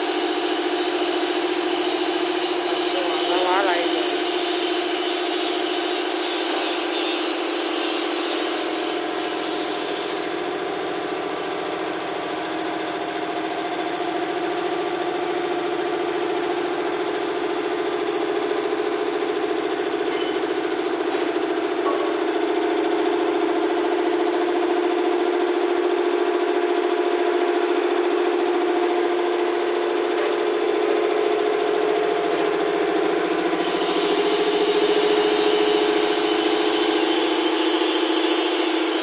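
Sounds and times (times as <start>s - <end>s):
air compressor running: 0.0s - 39.0s.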